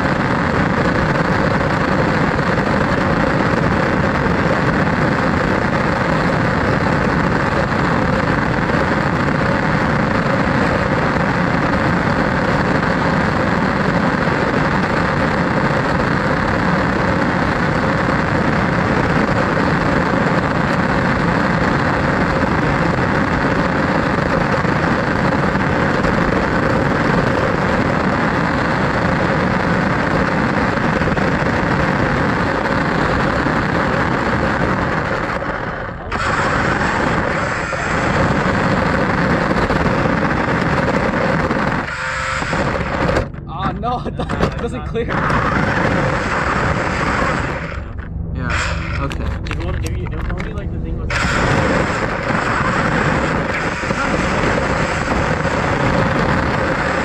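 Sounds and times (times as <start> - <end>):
toy car motor humming: 0.1 - 43.4, 45.1 - 47.9, 48.5 - 49.2, 51.1 - 57.0.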